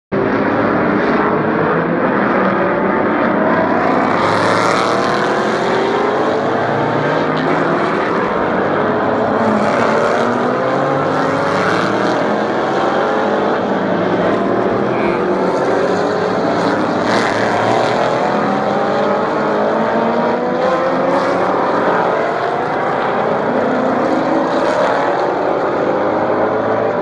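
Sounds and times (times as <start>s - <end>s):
race car engines accelerating: 0.1s - 27.0s.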